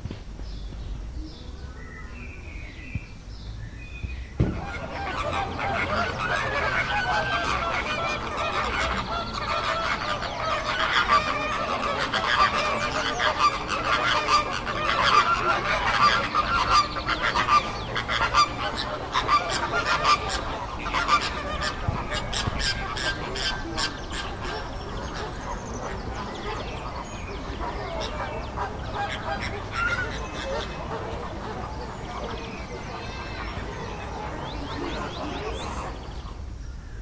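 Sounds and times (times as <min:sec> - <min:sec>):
birds honking: 0:04.4 - 0:36.5.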